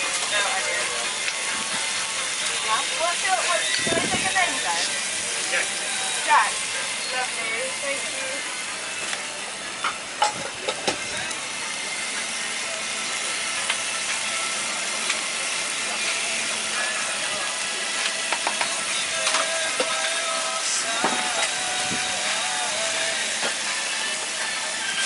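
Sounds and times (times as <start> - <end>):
chicken sizzling on griddle: 0.0 - 25.0.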